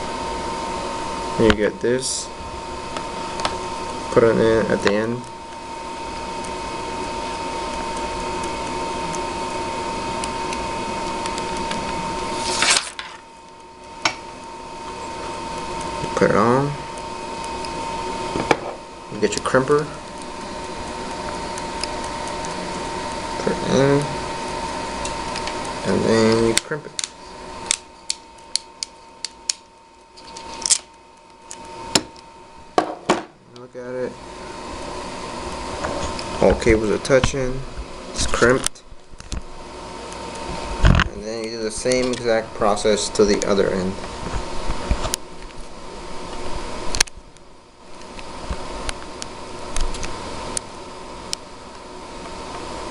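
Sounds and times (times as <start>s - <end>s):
mechanical hum with whine: 0.0s - 52.9s.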